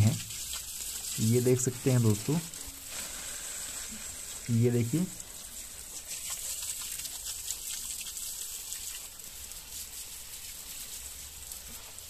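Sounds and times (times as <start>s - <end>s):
hose water spraying on metal: 0.0s - 12.0s.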